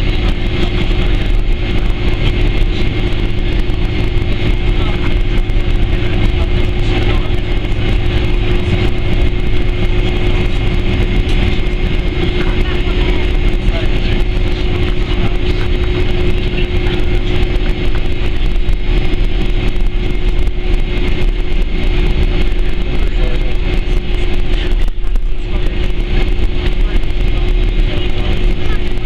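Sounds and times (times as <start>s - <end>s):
jet engines humming in cabin: 0.0s - 29.0s.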